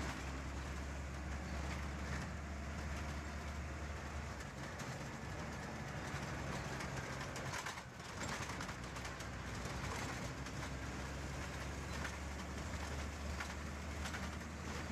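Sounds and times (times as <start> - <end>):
bus engine hum: 0.0 - 14.9
road and wind noise: 0.0 - 14.9.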